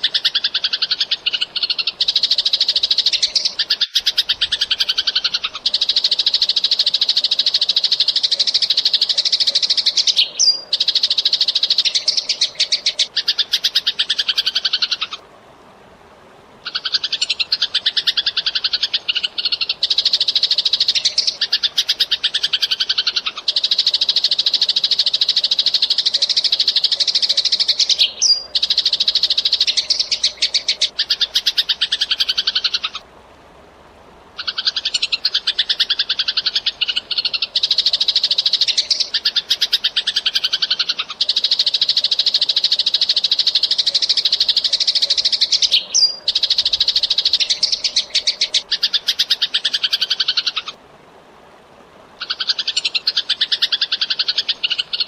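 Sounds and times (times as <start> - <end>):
sparrow chattering: 0.0 - 15.2, 16.7 - 33.0, 34.4 - 50.7, 52.2 - 55.0.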